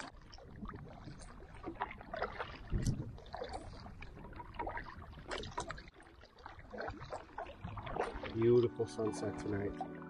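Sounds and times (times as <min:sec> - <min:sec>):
paddle splashing water: 0:00.0 - 0:10.0.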